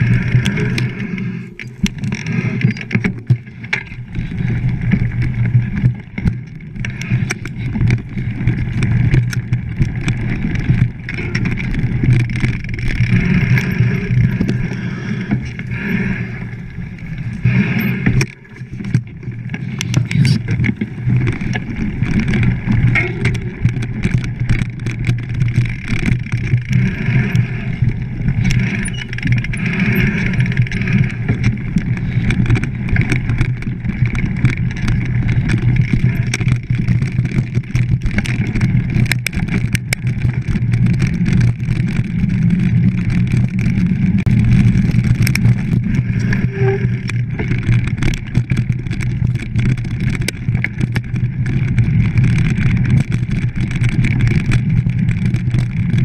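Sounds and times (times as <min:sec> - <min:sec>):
bike rattling clicks and knocks: 0:00.0 - 0:56.0
wind and ground rumble: 0:00.0 - 0:56.0.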